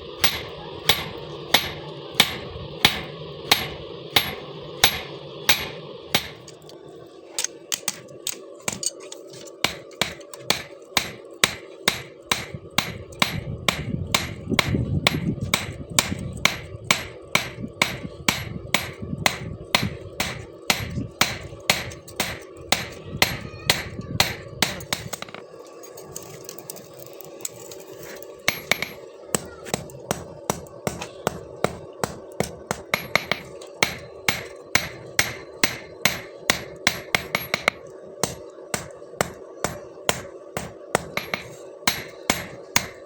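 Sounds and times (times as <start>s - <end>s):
steady hum: 0.0s - 25.6s, 26.2s - 43.0s
hammer blows on steel: 0.2s - 6.5s, 9.6s - 25.4s, 28.5s - 43.0s.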